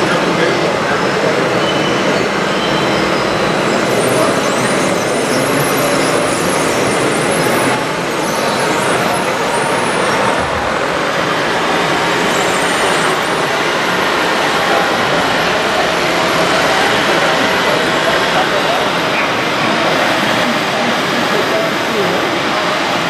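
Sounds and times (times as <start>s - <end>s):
exhibition hall hum: 0.0s - 23.0s.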